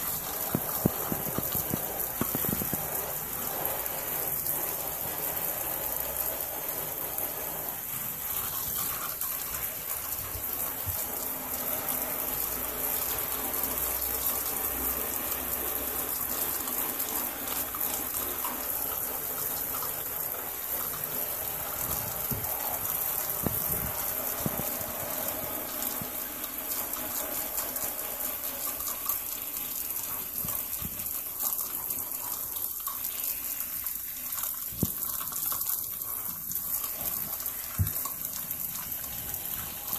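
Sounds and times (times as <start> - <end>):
shower spray running: 0.0 - 39.9.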